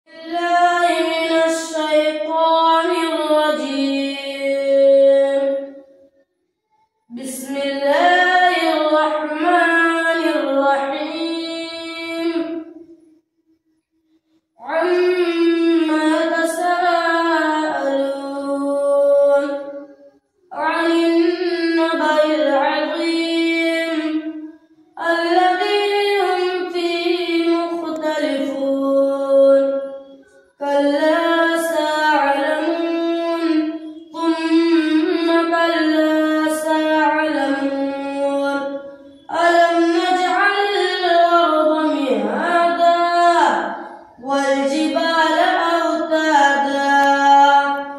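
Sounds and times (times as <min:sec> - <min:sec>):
boy chanting melodically: 0:00.1 - 0:06.1, 0:07.1 - 0:13.2, 0:14.6 - 0:47.9.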